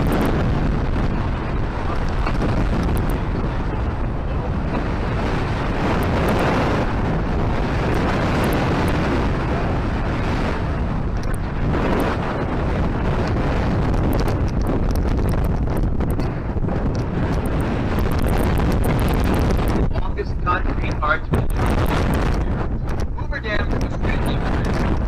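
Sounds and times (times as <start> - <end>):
boat running noise: 0.0 - 25.0
wind buffeting microphone: 0.0 - 25.0.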